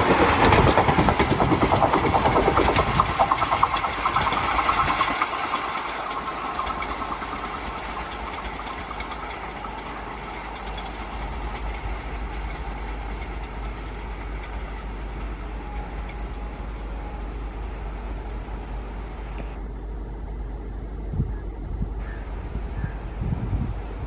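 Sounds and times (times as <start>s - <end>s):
train wheels clattering on rails: 0.0s - 19.6s.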